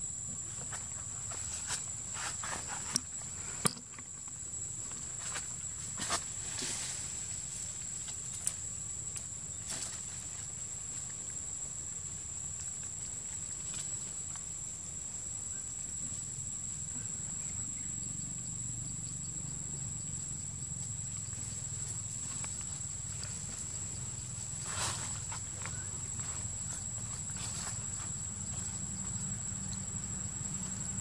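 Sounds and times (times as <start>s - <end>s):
forest insects droning: 0.0s - 31.0s.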